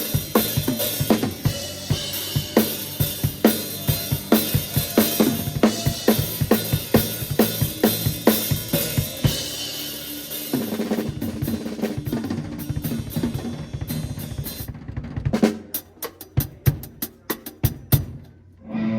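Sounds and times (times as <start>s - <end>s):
acoustic drum kit playing: 0.0s - 18.3s.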